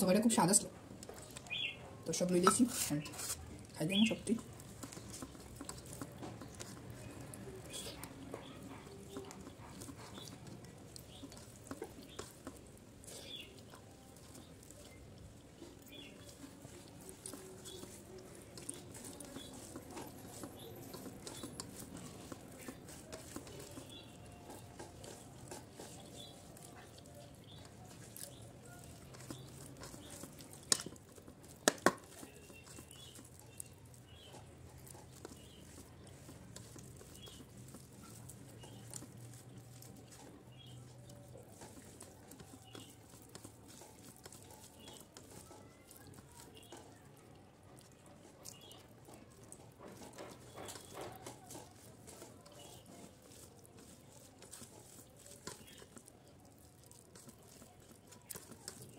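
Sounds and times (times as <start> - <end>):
fingers mixing food on steel plate: 0.0 - 58.9
soft chewing: 0.2 - 58.9.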